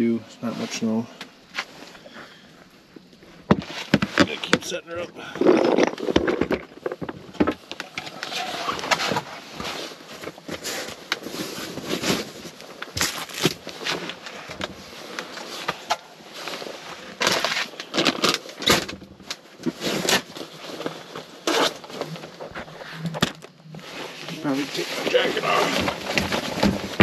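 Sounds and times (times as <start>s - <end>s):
gear and clothing rustling and knocking: 1.5s - 27.0s.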